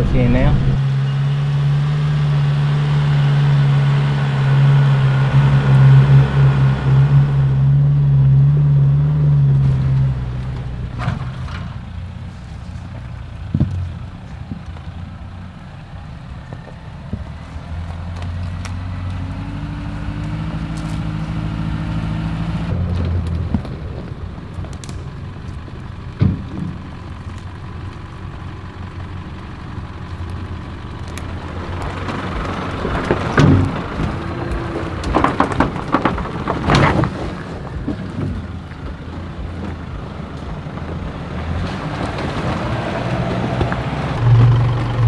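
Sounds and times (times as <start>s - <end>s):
off-road vehicle engine climbing: 0.0s - 45.0s.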